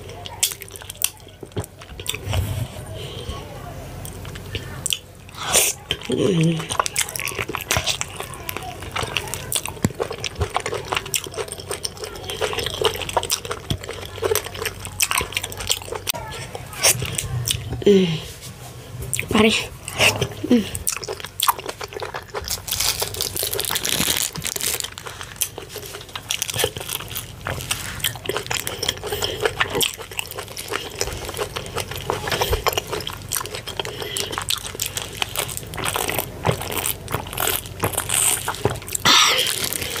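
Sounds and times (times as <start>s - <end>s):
wet chewing and mouth smacking: 0.0s - 3.3s, 4.0s - 17.8s, 19.1s - 40.0s.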